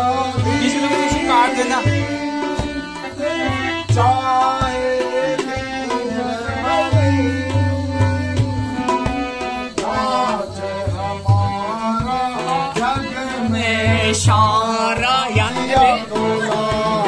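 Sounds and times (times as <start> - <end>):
harmonium: 0.0 - 17.0
man singing: 0.0 - 17.0
tabla bass drum strokes: 0.0 - 17.0.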